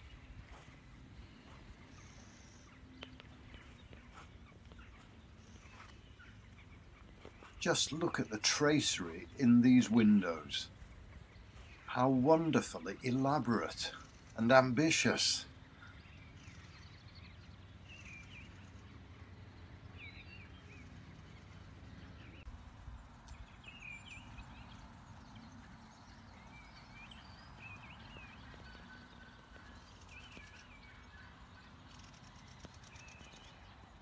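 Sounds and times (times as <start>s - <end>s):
low outdoor background rumble: 0.0s - 34.0s
small birds chirping: 0.0s - 34.0s.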